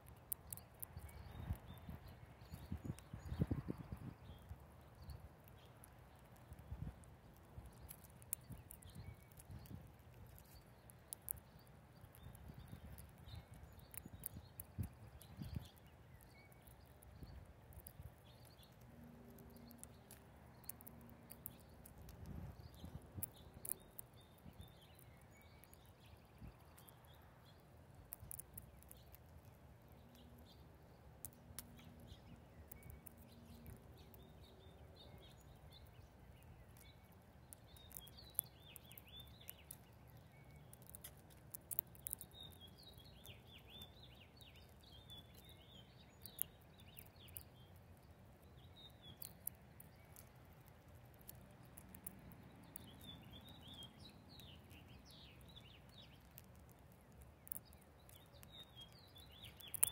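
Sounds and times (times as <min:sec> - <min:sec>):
small birds chirping: 0:00.0 - 0:59.9
sharp clicks: 0:05.0 - 0:30.6, 0:31.2 - 0:59.9.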